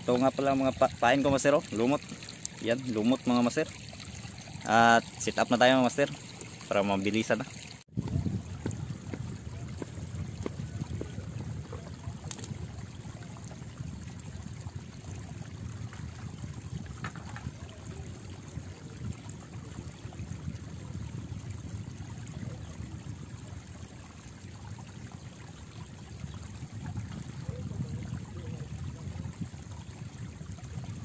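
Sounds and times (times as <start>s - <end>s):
small waves lapping: 0.0s - 31.0s.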